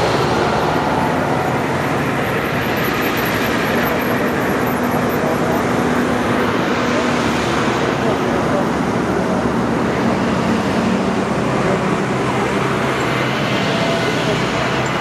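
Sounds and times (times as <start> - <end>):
fire truck engines running: 0.0 - 15.0
tyres on road: 0.0 - 15.0.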